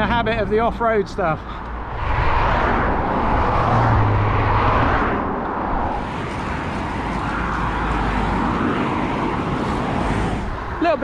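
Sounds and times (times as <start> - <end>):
passing vehicles rush: 0.0 - 11.0.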